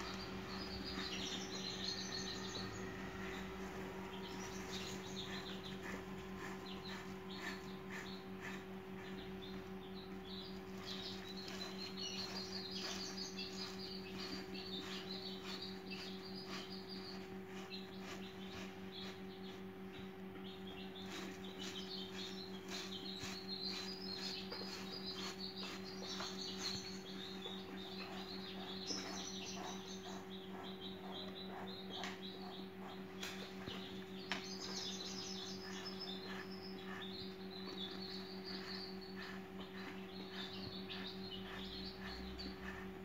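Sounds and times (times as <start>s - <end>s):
low electrical hum: 0.0s - 43.0s
small birds twittering: 0.0s - 43.0s.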